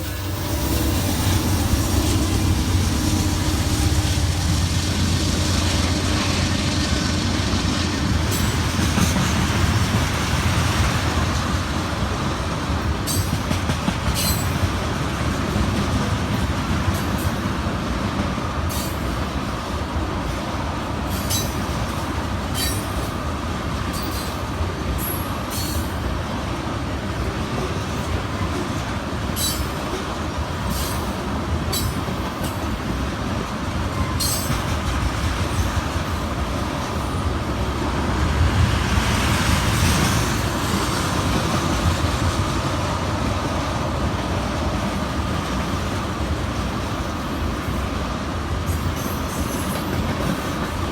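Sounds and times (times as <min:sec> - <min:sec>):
diesel locomotive hum: 0:00.0 - 0:50.9
train wheels rumbling on rail: 0:00.0 - 0:50.9.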